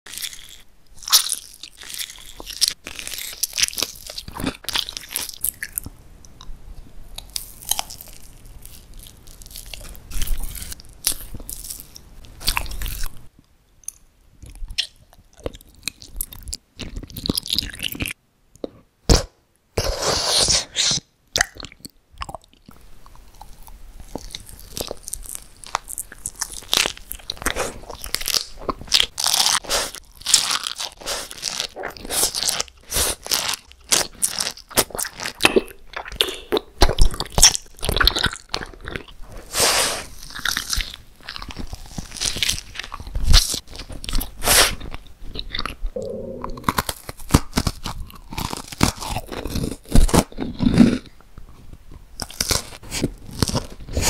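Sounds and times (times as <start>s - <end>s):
mouth crunching and chewing candy: 0.1s - 6.5s, 7.1s - 54.0s.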